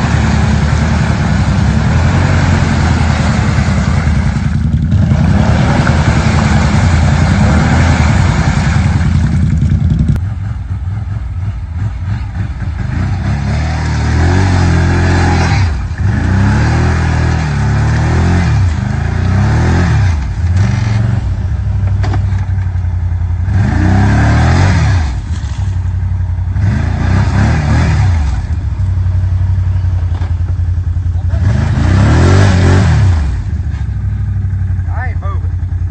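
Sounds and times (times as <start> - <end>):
tyres churning through mud: 0.0 - 10.4, 11.0 - 22.8, 23.4 - 30.4, 31.2 - 34.4
atv engine revving: 0.0 - 35.9.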